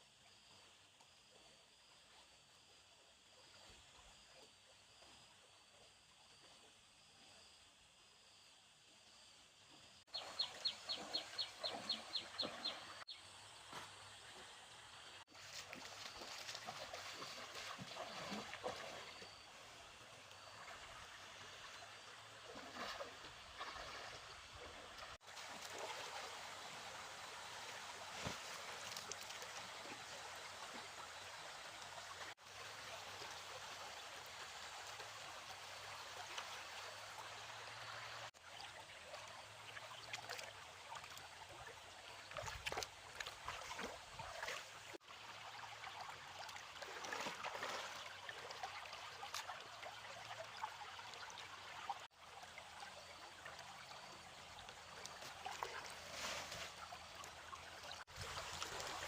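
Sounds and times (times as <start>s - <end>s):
water flowing and trickling: 9.7s - 59.0s
small water splashes: 10.0s - 59.0s.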